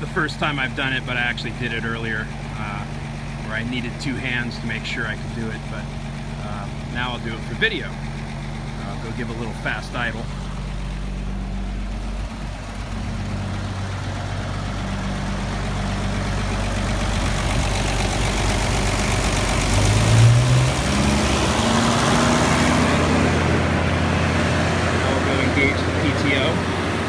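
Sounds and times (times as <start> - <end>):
truck engine fast idle: 0.0 - 27.0.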